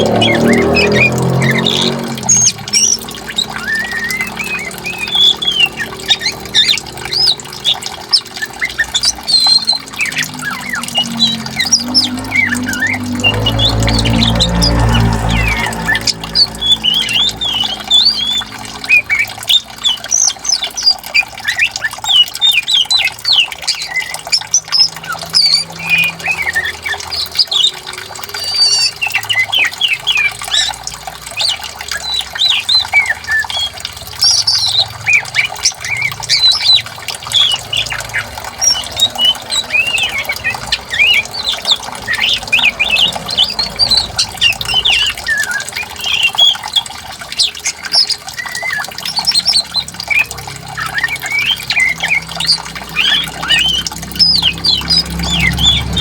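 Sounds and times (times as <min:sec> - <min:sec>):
faint flowing water: 0:00.0 - 0:56.0
songbirds chirping: 0:00.0 - 0:56.0.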